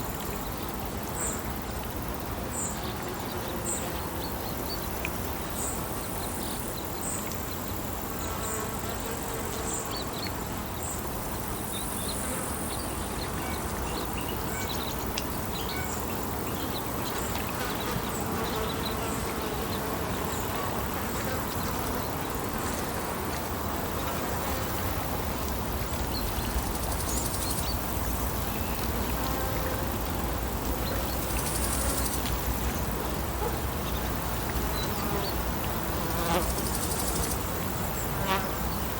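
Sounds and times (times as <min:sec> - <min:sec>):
insects buzzing: 0:00.0 - 0:38.9.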